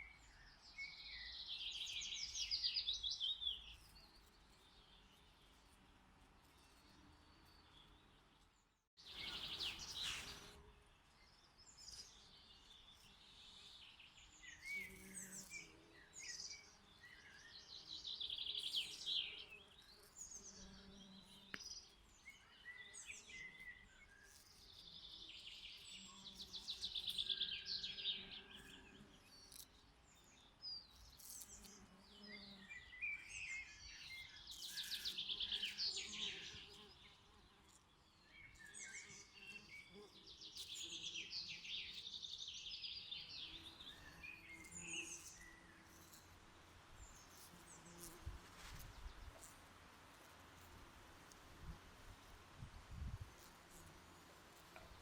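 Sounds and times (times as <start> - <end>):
songbirds singing: 0.0 - 5.9, 6.5 - 50.2.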